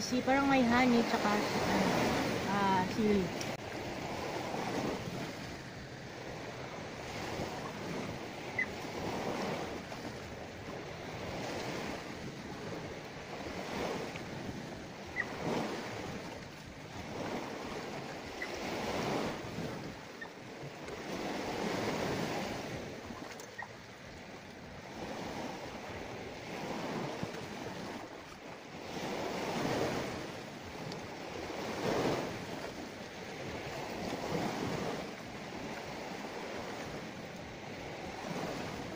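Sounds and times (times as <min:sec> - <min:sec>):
sea waves on rocky shore: 0:00.0 - 0:38.9
wind on microphone: 0:00.0 - 0:38.9.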